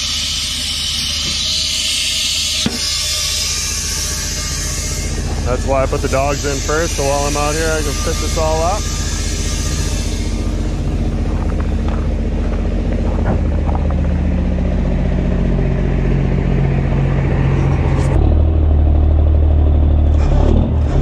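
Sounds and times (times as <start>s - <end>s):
diesel truck engine idling: 2.5s - 21.0s.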